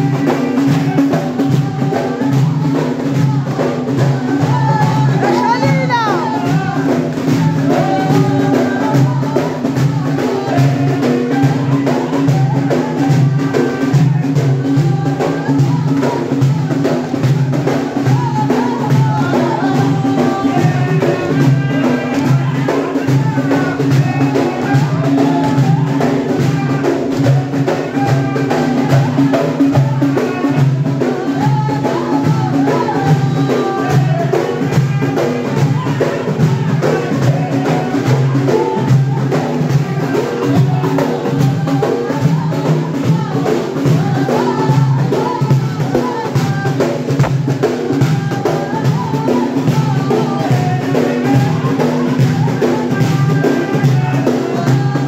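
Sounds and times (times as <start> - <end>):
frame drums beaten: 0.0 - 55.0
men chanting: 0.0 - 55.0.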